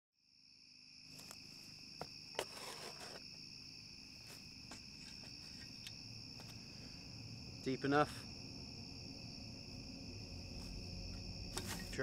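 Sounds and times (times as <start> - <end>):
crickets chirping: 0.2 - 12.0.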